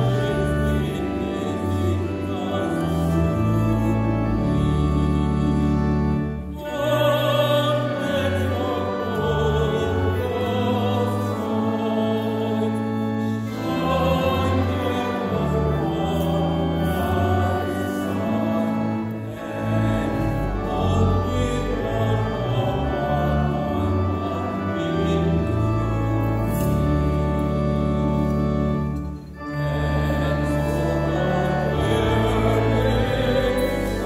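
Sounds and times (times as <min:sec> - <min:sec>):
church choir singing: 0:00.0 - 0:34.0
low sustained accompaniment: 0:00.0 - 0:34.0.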